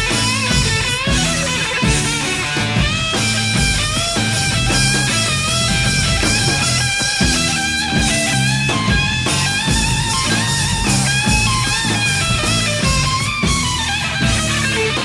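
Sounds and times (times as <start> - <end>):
bass guitar: 0.0 - 15.0
drums: 0.0 - 15.0
lead electric guitar: 0.0 - 15.0.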